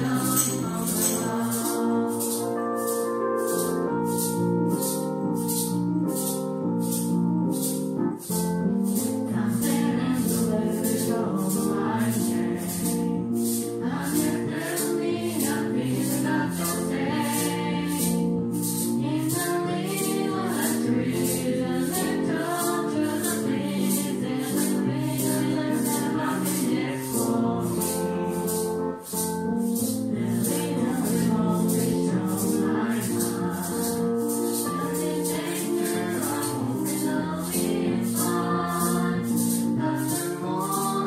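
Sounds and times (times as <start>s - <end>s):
young voices singing pop song: 0.0s - 2.9s, 9.1s - 28.8s, 29.9s - 41.0s
hand shaker beat: 0.0s - 41.0s.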